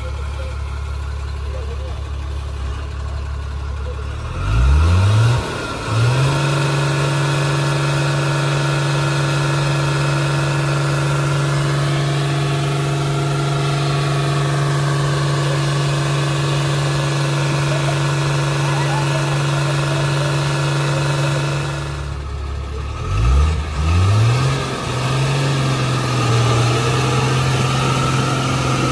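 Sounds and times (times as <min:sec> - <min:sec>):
truck diesel engine revving: 0:00.0 - 0:28.9.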